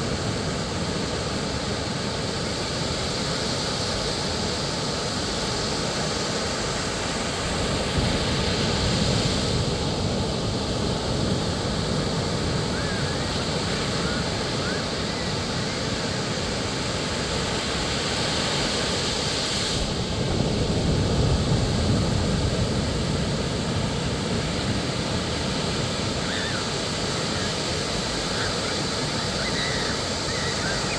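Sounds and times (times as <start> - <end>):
ocean surf washing onto beach: 0.0 - 30.9.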